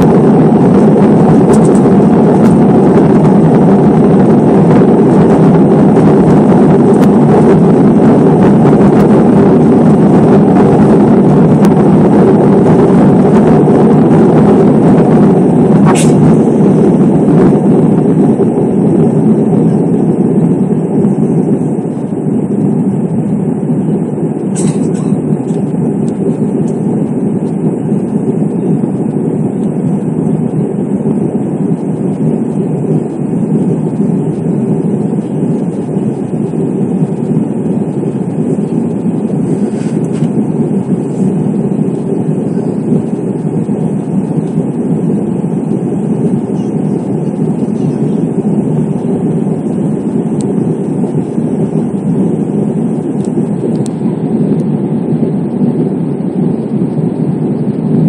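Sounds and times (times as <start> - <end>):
jet engines rumbling in cabin: 0.0 - 58.0
rushing airflow: 0.0 - 58.0.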